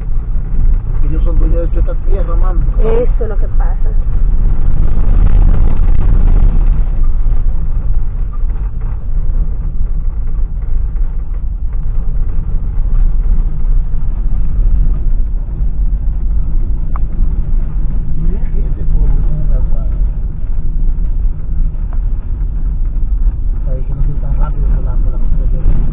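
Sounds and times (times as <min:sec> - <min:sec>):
car engine running: 0:00.0 - 0:25.9
tyres on dirt road: 0:00.0 - 0:25.9.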